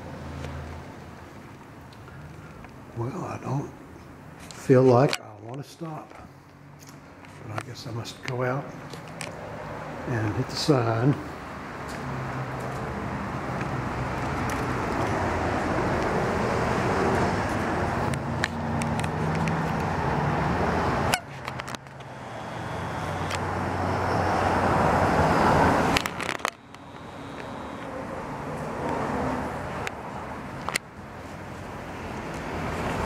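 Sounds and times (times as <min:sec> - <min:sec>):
cars passing by: 0:00.0 - 0:33.0.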